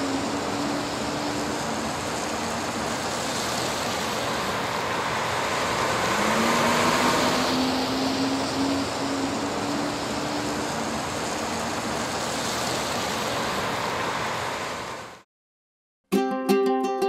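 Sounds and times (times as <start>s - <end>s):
city street traffic: 0.0s - 15.2s.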